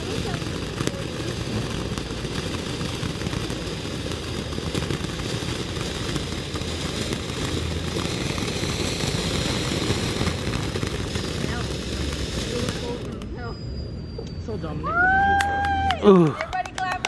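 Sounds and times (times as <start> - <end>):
firework hissing and crackling: 0.0 - 17.0.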